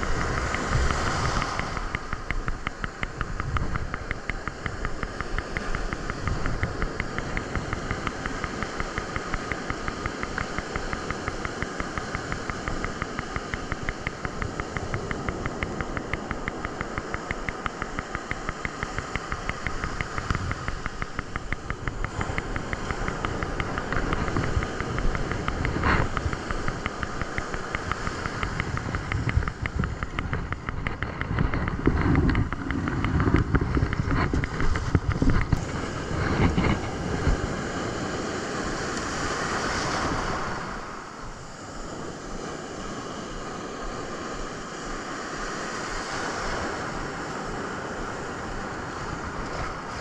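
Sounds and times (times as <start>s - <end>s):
surf washing: 0.0s - 50.0s
wind buffeting microphone: 0.0s - 50.0s.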